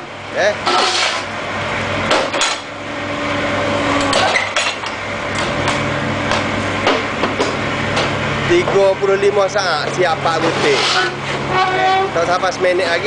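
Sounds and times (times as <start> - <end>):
brick press motor humming: 0.0 - 13.0.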